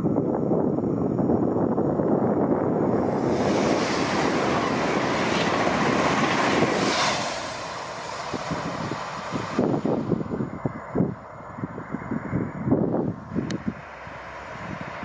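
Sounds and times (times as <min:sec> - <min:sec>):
train passing at speed: 0:01.9 - 0:15.0.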